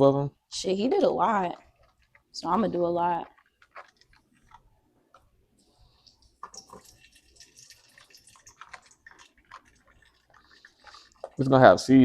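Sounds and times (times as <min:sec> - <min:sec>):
wet squishy ticks: 0:01.1 - 0:05.3, 0:05.9 - 0:12.0.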